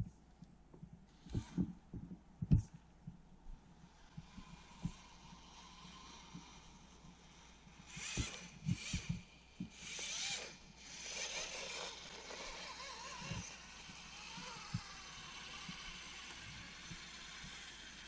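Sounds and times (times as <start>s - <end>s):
electric motor and gears whining: 1.1s - 2.1s, 3.8s - 18.0s.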